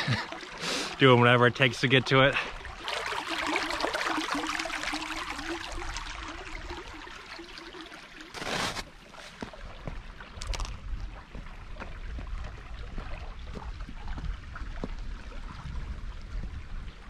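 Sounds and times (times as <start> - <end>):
creek trickling: 0.0 - 17.0.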